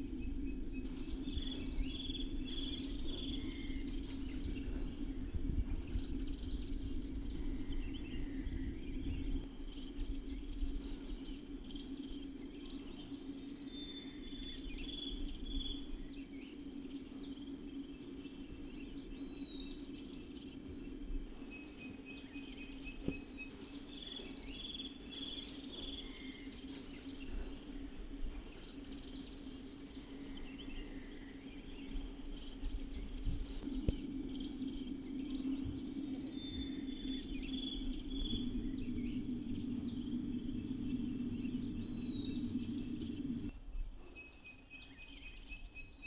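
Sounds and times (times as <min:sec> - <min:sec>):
low outdoor hum: 0:00.0 - 0:46.0
songbirds chirping: 0:00.0 - 0:46.0.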